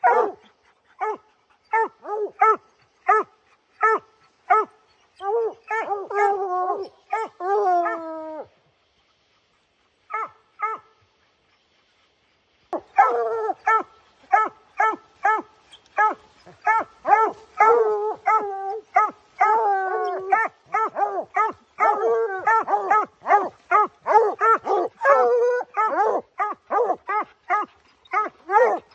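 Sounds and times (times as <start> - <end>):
hounds barking: 0.0 - 8.0, 9.8 - 11.5, 12.7 - 28.9.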